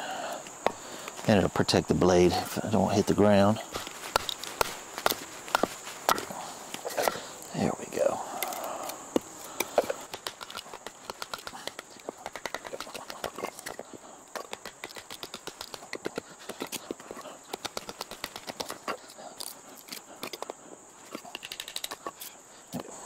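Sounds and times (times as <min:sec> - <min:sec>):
high insect buzz: 0:00.0 - 0:23.0.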